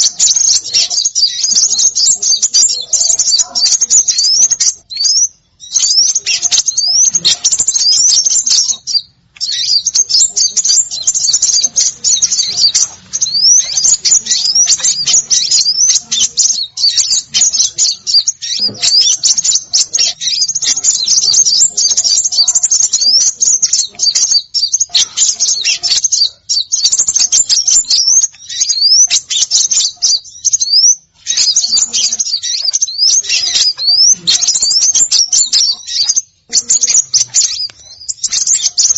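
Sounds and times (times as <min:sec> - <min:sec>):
songbirds chirping and whistling: 0:00.0 - 0:38.9.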